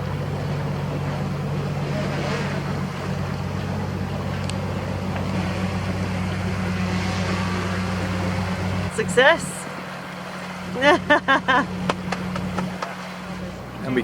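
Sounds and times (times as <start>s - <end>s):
boat engine humming: 0.0s - 14.0s
rushing water: 0.0s - 14.0s
wind: 0.0s - 14.0s.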